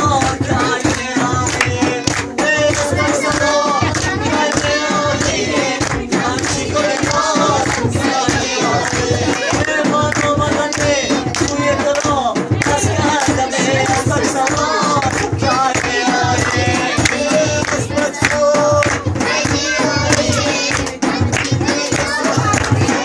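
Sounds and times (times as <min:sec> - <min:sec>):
frame drum beat: 0:00.0 - 0:23.0
hand clapping: 0:00.0 - 0:23.0
person singing: 0:00.0 - 0:23.0.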